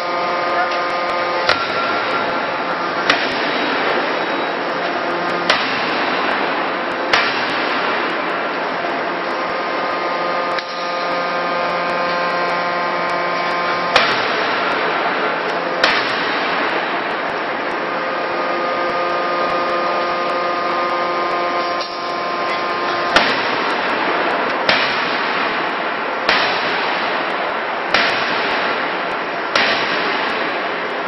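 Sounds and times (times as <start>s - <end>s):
forging hammer blows: 0.0s - 31.0s
machinery hum: 0.0s - 31.0s.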